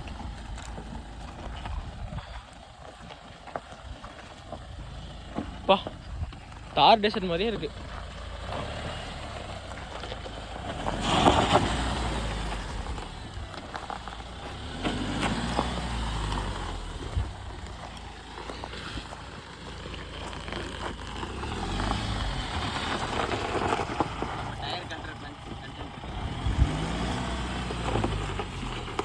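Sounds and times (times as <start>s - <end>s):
vehicle engine and tyre rumble: 0.0s - 29.0s.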